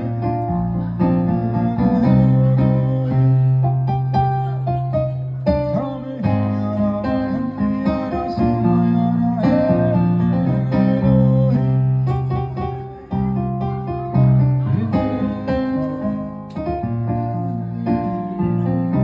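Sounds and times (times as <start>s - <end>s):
keyboard: 0.0s - 19.0s.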